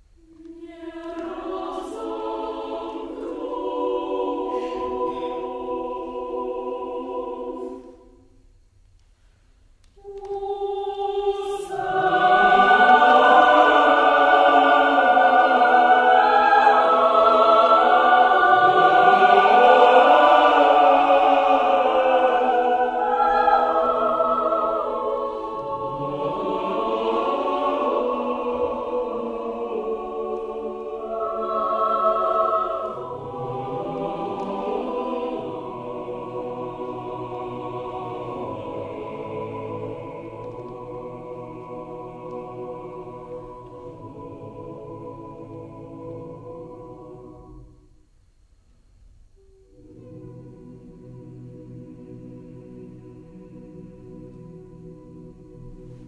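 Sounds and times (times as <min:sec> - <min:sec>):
choir singing sustained chords: 0:00.0 - 0:08.7, 0:10.0 - 0:48.5, 0:49.3 - 0:56.0.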